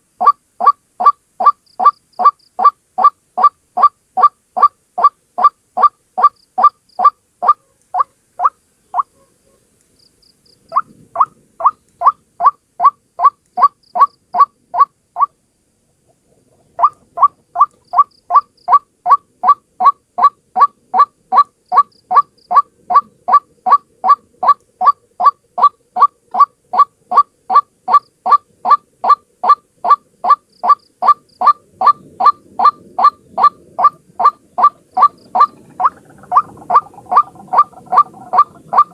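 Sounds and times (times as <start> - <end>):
waterhen calling: 0.0 - 9.2, 10.7 - 15.4, 16.3 - 38.9.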